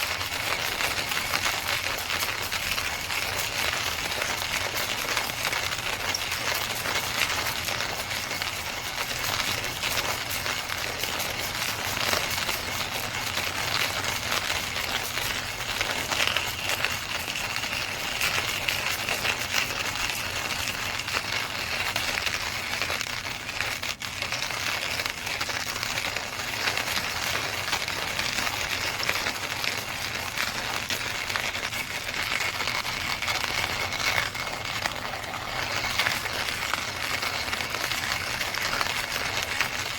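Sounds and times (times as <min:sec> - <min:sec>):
coffee grinder grinding beans: 0:00.0 - 0:39.9.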